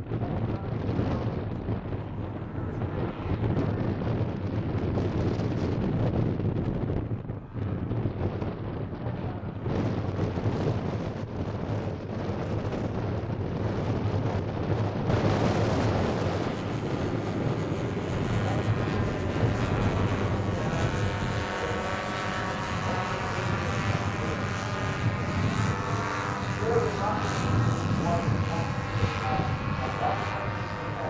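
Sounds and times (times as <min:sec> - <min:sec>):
model plane engines running: 0:00.0 - 0:31.0.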